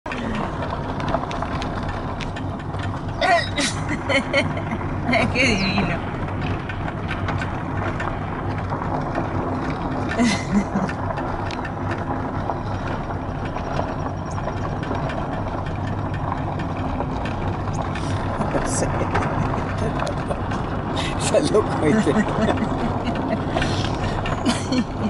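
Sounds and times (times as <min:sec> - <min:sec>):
car engine hum: 0:00.0 - 0:25.0
clicks and rattles: 0:00.1 - 0:05.2, 0:06.0 - 0:25.0
tyre noise: 0:00.1 - 0:25.0.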